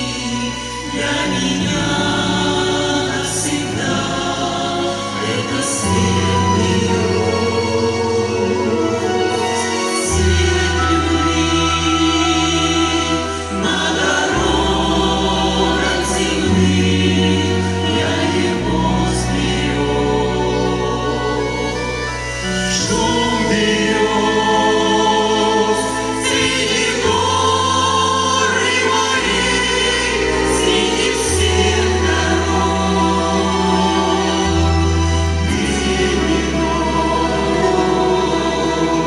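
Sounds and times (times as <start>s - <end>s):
instrumental accompaniment: 0.0s - 39.0s
sustained bass line: 0.0s - 39.0s
vocal ensemble singing in parts: 0.0s - 39.0s.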